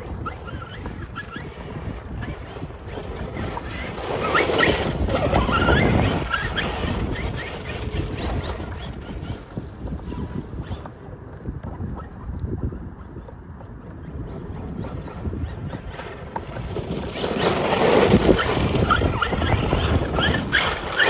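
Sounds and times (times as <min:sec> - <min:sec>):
electric motor whining: 0:00.0 - 0:11.0, 0:14.1 - 0:21.0.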